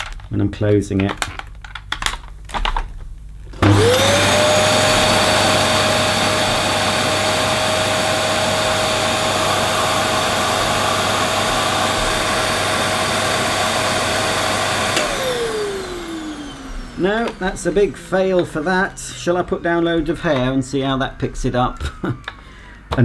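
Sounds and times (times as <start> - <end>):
vacuum cleaner running: 3.5 - 22.9.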